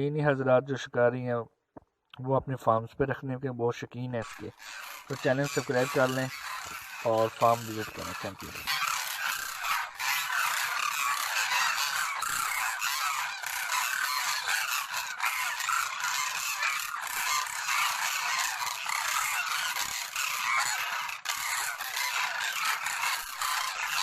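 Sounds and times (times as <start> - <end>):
flock of cranes calling: 4.2 - 24.0.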